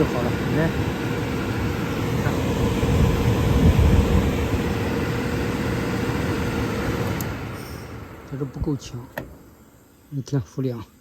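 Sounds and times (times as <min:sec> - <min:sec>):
furnace blower running: 0:00.0 - 0:10.3.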